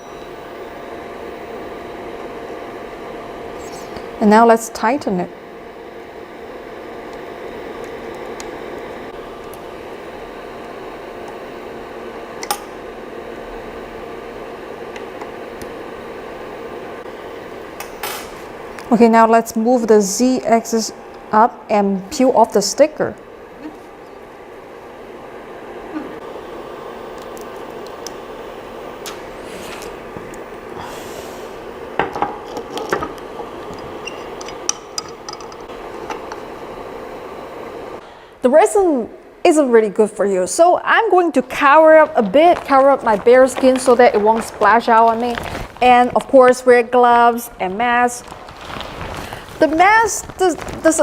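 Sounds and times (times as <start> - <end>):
fan-like hum: 0.0 - 51.0.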